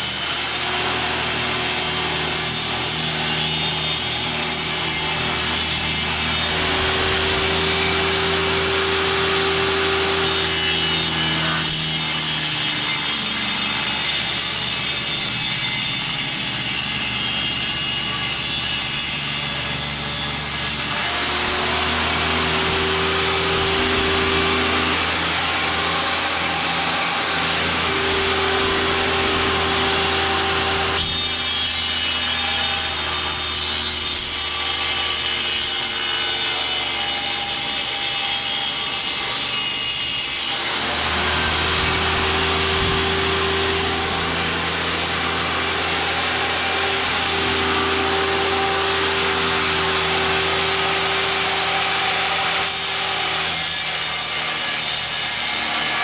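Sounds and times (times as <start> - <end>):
power saw cutting wood: 0.0 - 56.0.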